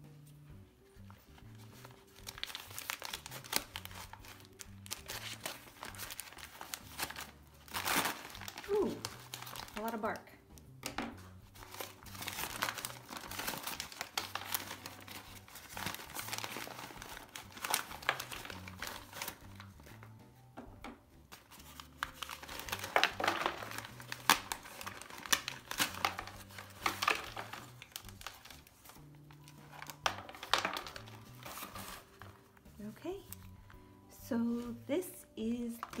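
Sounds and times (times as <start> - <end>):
newspaper crinkling and rustling: 1.0 - 10.2, 11.2 - 20.2, 21.3 - 33.8, 35.6 - 36.0.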